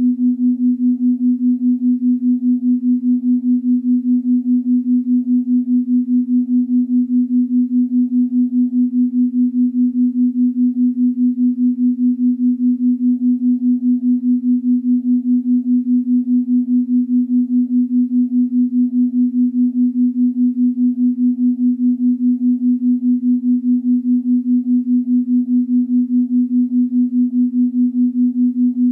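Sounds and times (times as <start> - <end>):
pulsing low electronic hum: 0.0 - 28.9.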